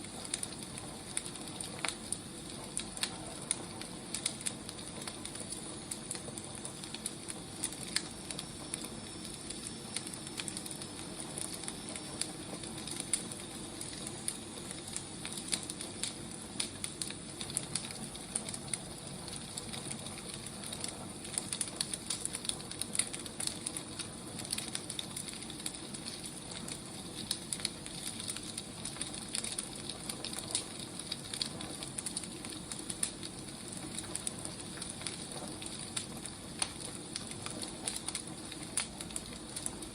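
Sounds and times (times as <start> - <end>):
burning logs crackling and popping: 0.0 - 39.9
wood fire hissing: 0.0 - 39.9.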